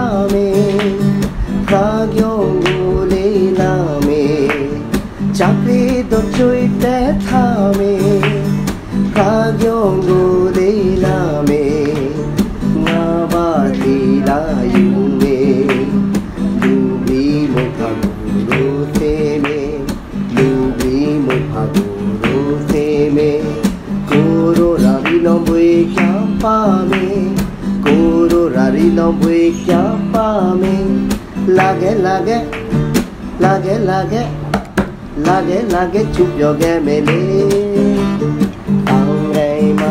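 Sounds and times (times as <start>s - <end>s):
person singing: 0.0s - 32.6s, 33.3s - 39.9s
strummed guitar: 0.0s - 39.9s.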